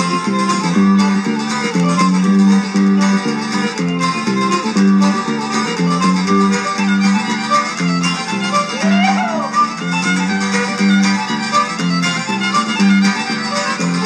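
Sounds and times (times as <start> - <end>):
fiddle playing a fast reel: 0.0 - 14.0
repeating bass accompaniment: 0.0 - 14.0.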